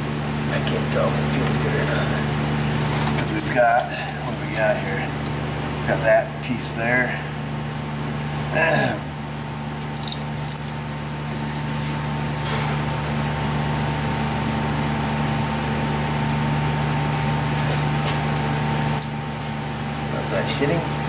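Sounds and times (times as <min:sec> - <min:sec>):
background hum: 0:00.0 - 0:21.0.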